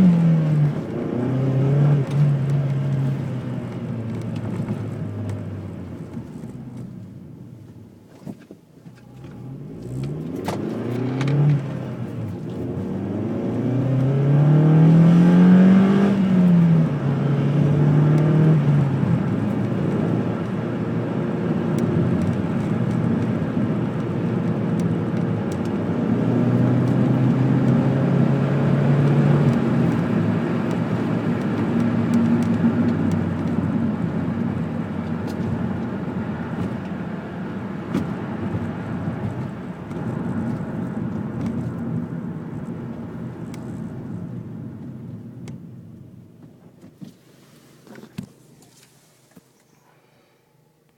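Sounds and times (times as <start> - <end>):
car engine revving: 0.0 - 6.6, 9.0 - 44.7.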